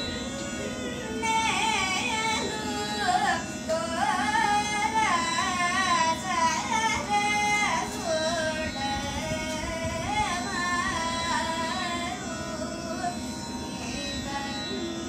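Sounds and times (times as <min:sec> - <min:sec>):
steady drone: 0:00.0 - 0:15.0
high voice singing: 0:01.0 - 0:15.0.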